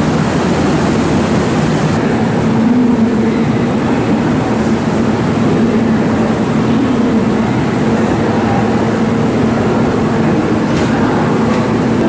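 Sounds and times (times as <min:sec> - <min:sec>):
electric train equipment humming: 0:00.0 - 0:12.0.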